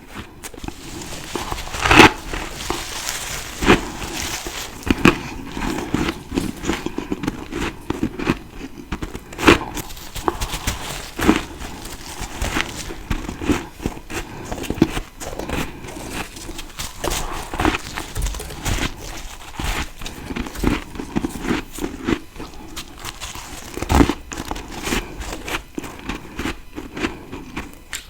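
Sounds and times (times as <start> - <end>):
crunchy chewing: 0.0 - 28.0
ice cracking bites: 0.4 - 28.0.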